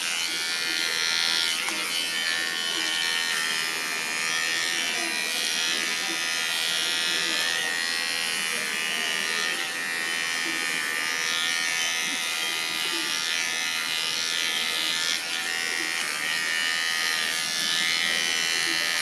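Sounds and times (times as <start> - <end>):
electric pet clipper buzzing: 0.0 - 19.0.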